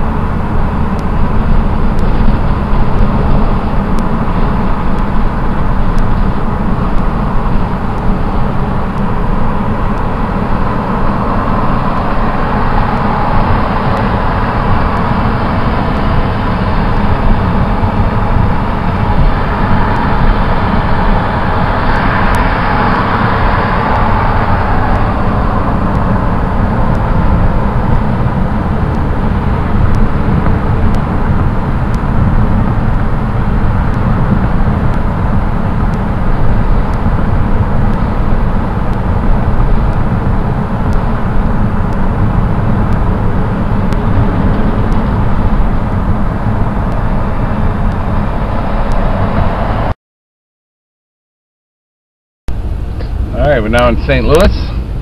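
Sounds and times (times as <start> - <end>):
moving vehicle rumble: 0.0 - 50.0, 52.5 - 55.0.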